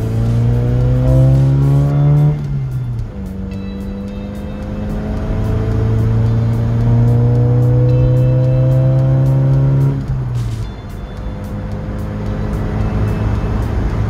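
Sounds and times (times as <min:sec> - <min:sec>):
car engine revving in cabin: 0:00.0 - 0:10.5, 0:11.2 - 0:14.0.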